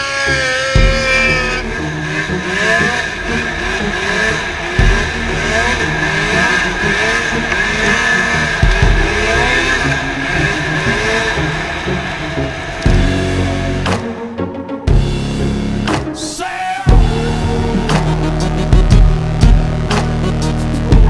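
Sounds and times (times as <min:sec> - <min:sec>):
snowmobile engine revving: 0:00.0 - 0:21.0
heavy low thumps: 0:00.8 - 0:16.1, 0:16.9 - 0:21.0.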